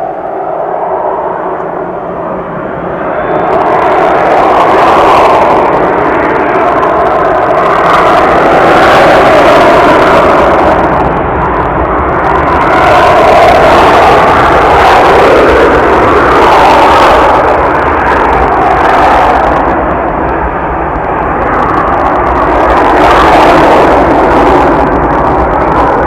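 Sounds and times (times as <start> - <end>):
jet airliner taking off: 0.0 - 26.0.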